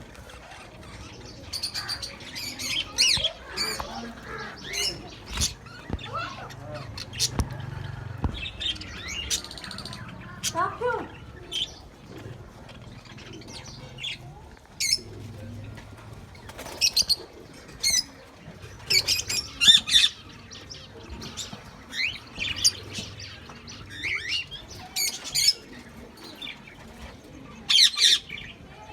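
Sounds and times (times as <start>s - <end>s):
budgerigars chirping and squawking: 0.1s - 28.7s.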